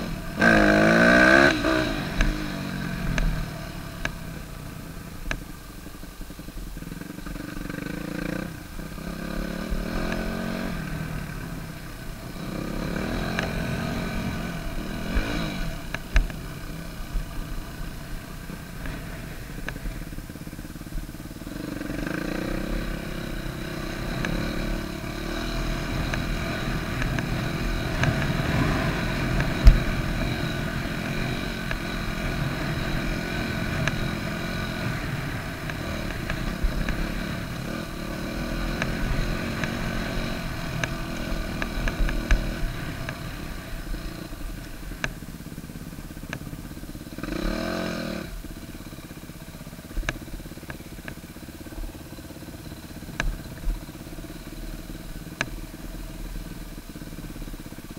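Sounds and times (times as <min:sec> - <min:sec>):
dirt bike engine revving: 0:00.0 - 0:05.4, 0:06.7 - 0:50.0.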